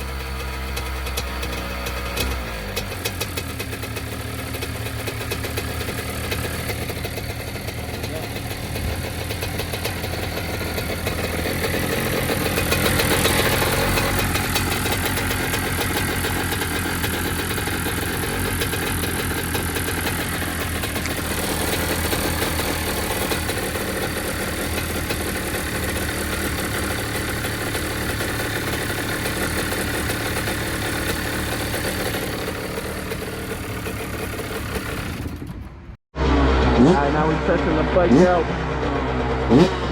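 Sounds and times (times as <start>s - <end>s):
dirt bike engine idling: 0.0s - 39.9s.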